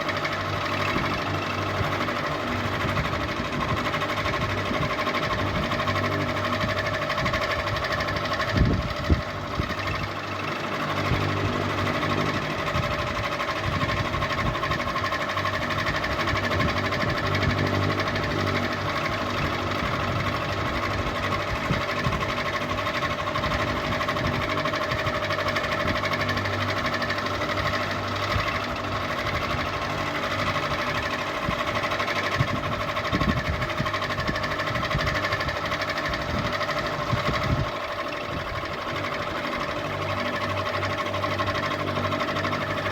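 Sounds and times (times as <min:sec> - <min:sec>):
ceiling fan hum and whine: 0:00.0 - 0:42.9.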